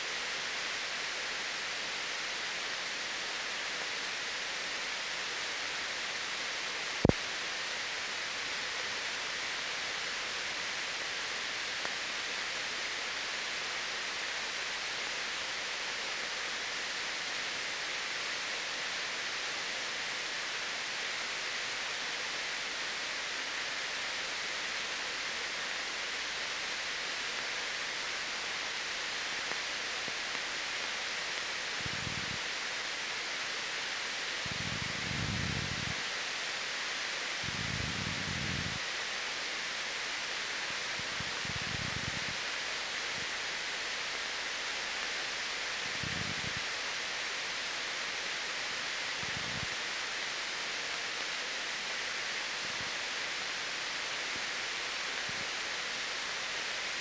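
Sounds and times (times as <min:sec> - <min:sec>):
film soundtrack hiss: 0:00.0 - 0:57.0.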